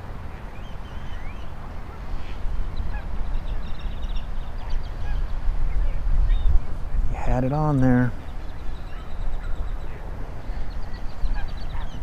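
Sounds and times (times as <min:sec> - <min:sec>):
birds chirping: 0:00.0 - 0:12.0
wind buffeting microphone: 0:00.0 - 0:12.0.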